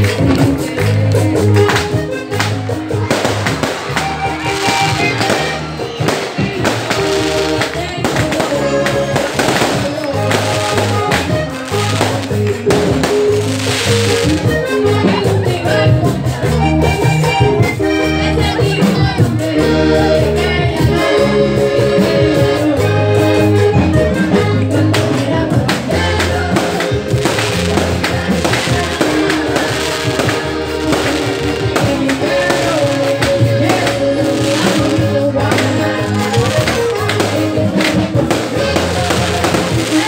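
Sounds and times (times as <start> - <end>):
accordion: 0.0 - 40.0
bass line: 0.0 - 40.0
percussion beat: 0.0 - 40.0.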